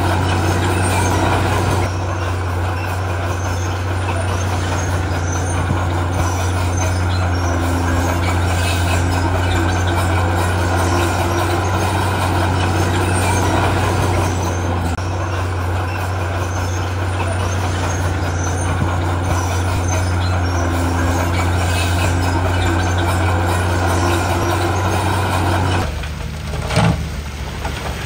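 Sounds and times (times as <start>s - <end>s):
heavy diesel engine humming: 0.0s - 28.0s.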